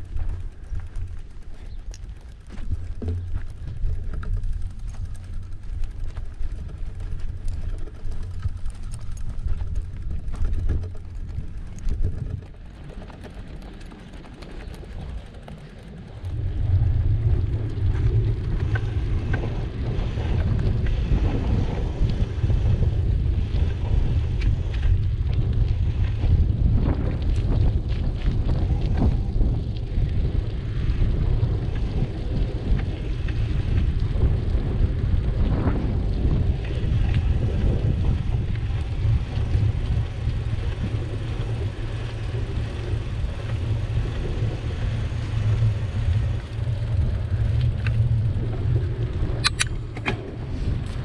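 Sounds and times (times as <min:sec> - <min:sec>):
bicycle tyres rolling on pavement: 0:00.0 - 0:51.0
wind buffeting microphone: 0:00.0 - 0:51.0.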